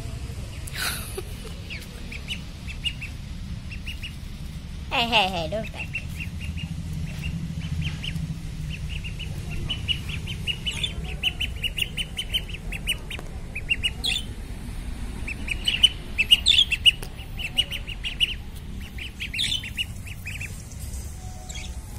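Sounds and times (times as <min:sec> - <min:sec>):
ducklings peeping: 0:00.3 - 0:21.9.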